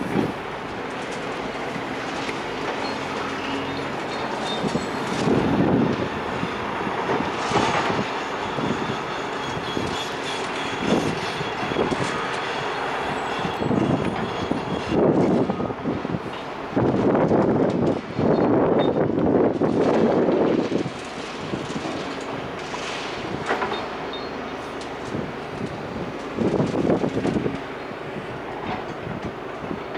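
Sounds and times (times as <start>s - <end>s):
demolition machinery working: 0.0s - 29.9s.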